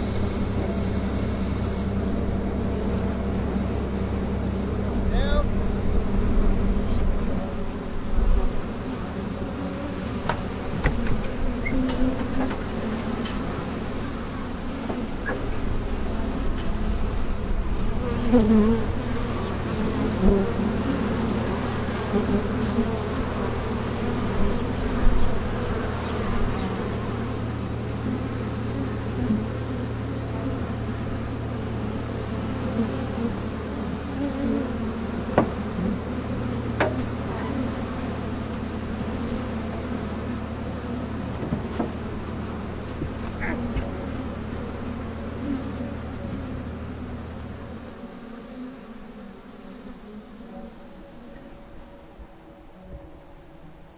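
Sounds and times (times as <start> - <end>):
steady low hum: 0.0 - 11.6, 12.5 - 48.1
bees buzzing: 0.0 - 51.4.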